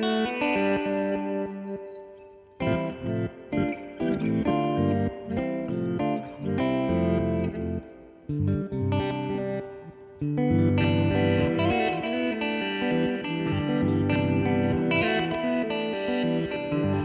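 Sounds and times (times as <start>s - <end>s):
electric guitar sustained notes: 0.0s - 17.0s.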